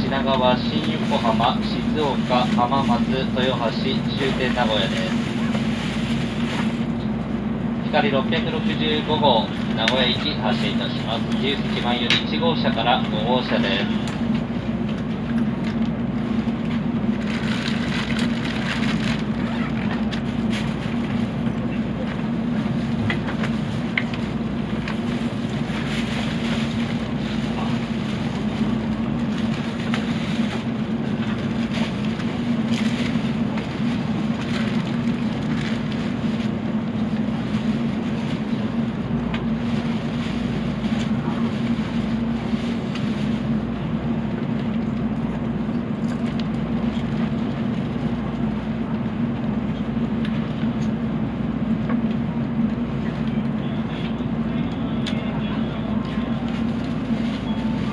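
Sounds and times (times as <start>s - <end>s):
train interior rumble: 0.0s - 57.9s.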